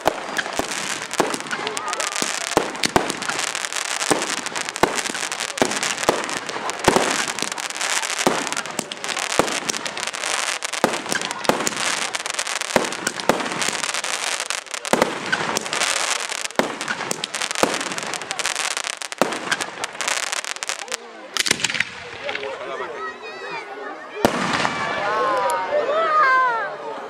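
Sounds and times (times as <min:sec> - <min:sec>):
firework shells bursting: 0:00.0 - 0:22.4
firework crackle: 0:00.0 - 0:22.6, 0:24.2 - 0:25.1.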